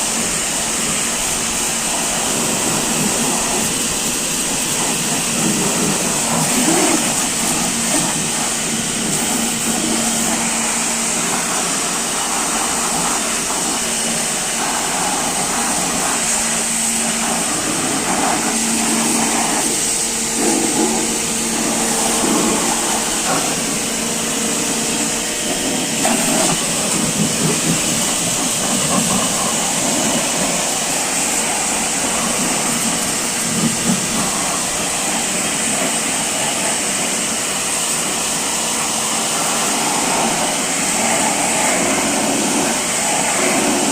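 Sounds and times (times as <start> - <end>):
machine hissing: 0.0 - 43.9
electric motor hum: 0.5 - 43.9.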